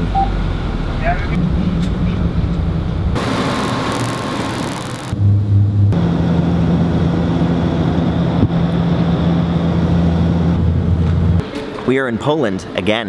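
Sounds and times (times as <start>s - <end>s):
turboprop engine drone: 0.0s - 11.4s.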